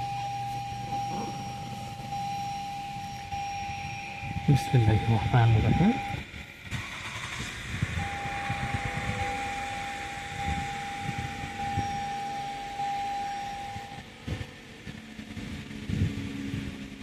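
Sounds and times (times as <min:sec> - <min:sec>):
steady high tone: 0:00.0 - 0:16.0
car engine idling: 0:00.0 - 0:17.0.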